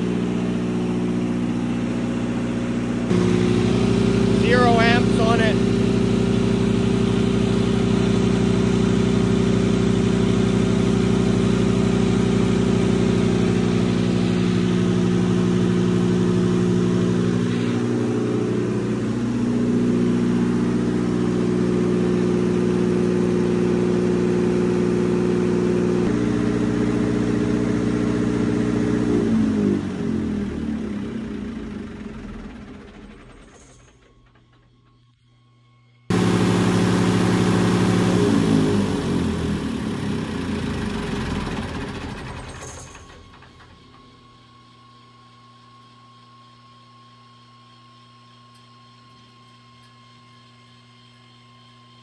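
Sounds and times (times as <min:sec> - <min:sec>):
diesel generator running: 0:00.0 - 0:35.2, 0:36.1 - 0:52.0.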